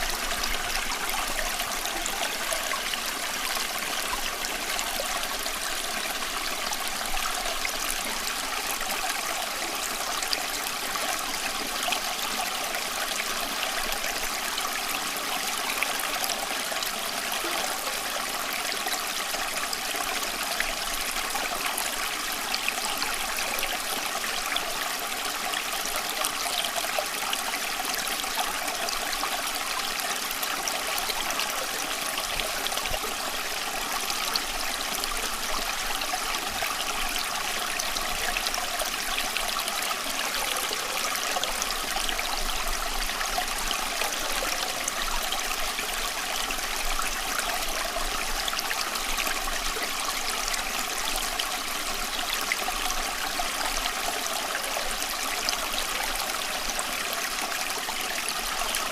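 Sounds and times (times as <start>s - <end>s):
running water flowing: 0.0s - 58.9s.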